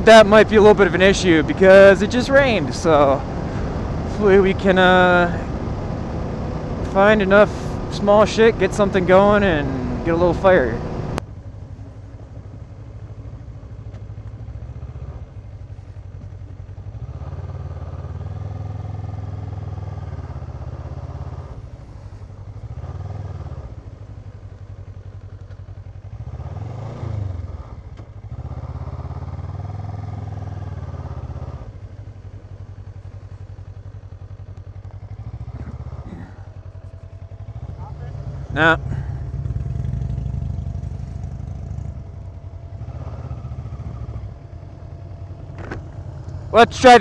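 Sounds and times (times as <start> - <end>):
motorcycle engine revving: 0.0 - 11.2, 14.0 - 47.0.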